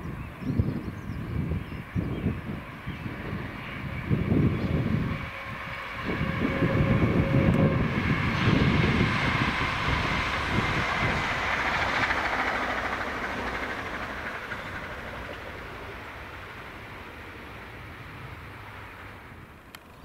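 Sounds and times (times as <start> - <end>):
steam locomotive train passing: 1.0 - 19.9.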